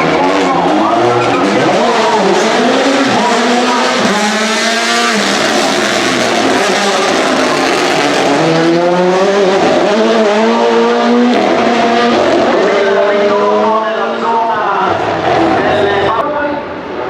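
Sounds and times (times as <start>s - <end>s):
rally car engine accelerating: 0.0s - 16.2s.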